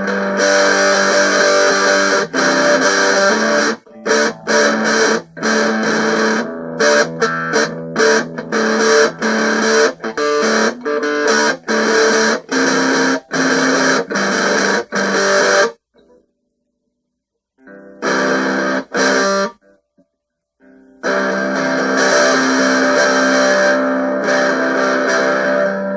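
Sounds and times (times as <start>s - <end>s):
guitar strumming chords: 0.0s - 16.3s, 17.6s - 20.0s, 20.6s - 25.9s.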